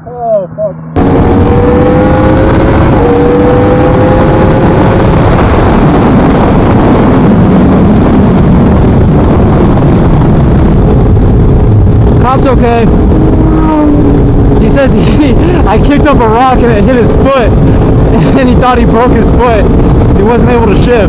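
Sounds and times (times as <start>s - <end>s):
wind rush on microphone: 0.9s - 21.0s
motorcycle engine running: 1.0s - 20.9s.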